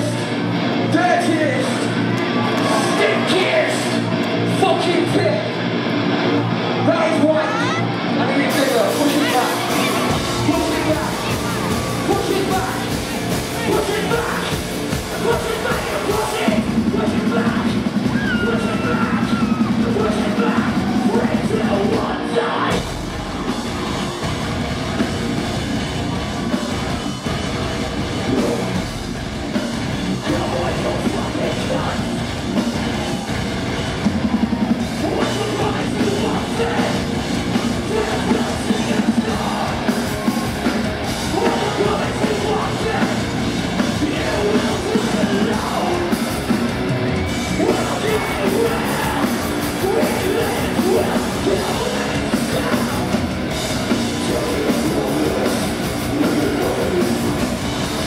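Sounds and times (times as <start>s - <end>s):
vocals: 0.0s - 5.6s, 6.8s - 24.2s, 28.1s - 33.3s, 34.0s - 58.0s
distorted electric guitars: 0.0s - 58.0s
drums: 0.0s - 58.0s.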